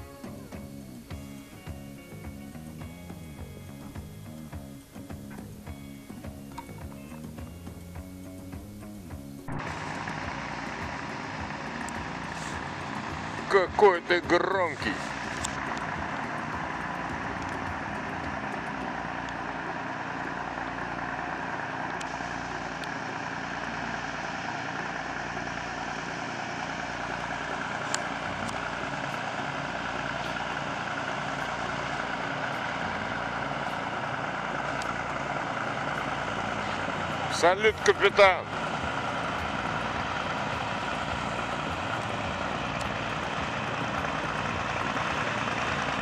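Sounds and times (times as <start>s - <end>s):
diesel boat engine droning: 0.0s - 46.0s.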